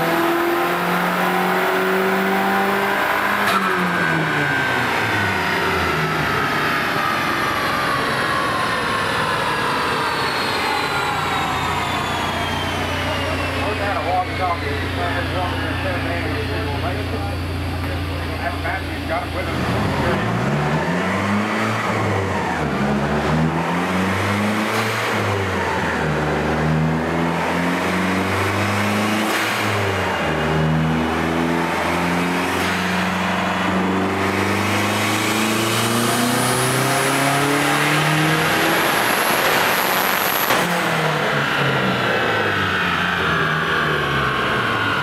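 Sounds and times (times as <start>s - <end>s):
car engine revving under load: 0.0s - 45.0s.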